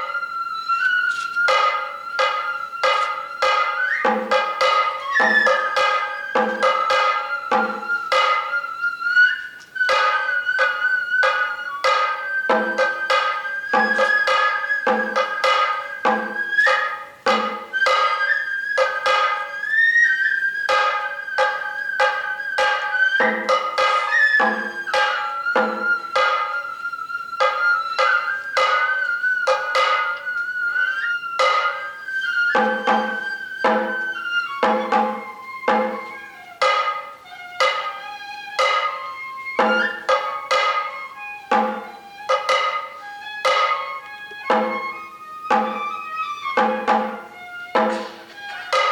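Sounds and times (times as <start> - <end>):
bamboo flute high wavering note: 0.0 - 48.9
drum struck in uneven beat: 1.4 - 48.9.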